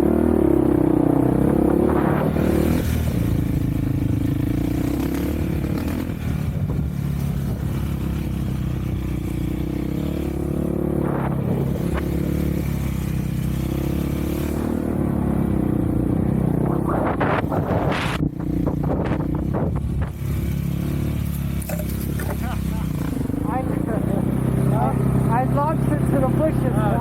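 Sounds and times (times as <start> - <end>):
off-road engine running: 0.0 - 27.0.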